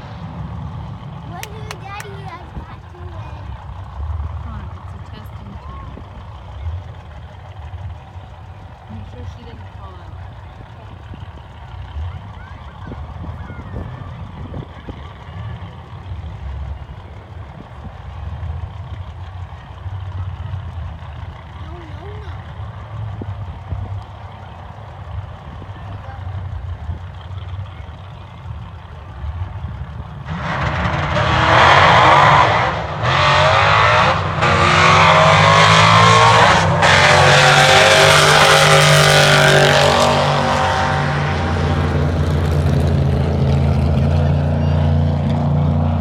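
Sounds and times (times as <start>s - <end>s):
vehicle engine accelerating: 0.0s - 46.0s.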